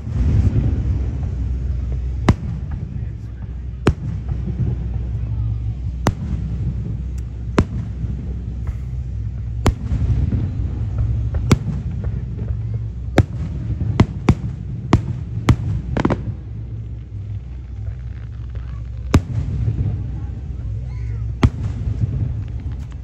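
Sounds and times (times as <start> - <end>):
firework crackle: 0.0 - 23.0
firework shells bursting: 0.0 - 23.0
low rumble: 0.0 - 23.0.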